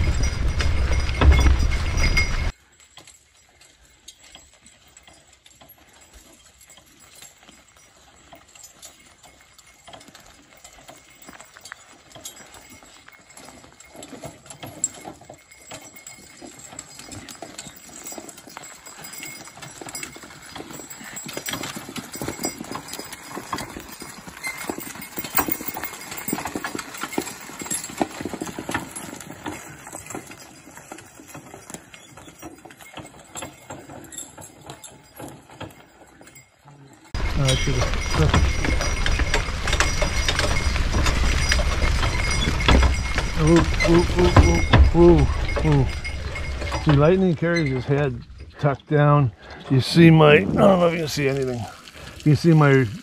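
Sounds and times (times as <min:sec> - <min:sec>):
horse hooves clip-clopping: 0:00.0 - 0:53.0.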